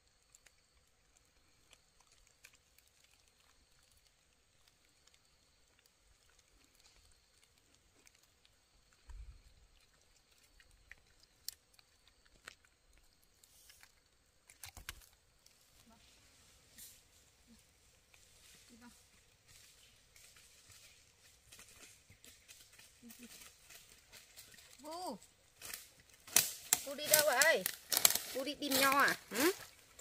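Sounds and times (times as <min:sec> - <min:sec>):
faint clicks and ticks: 0:00.0 - 0:16.0, 0:17.5 - 0:29.2.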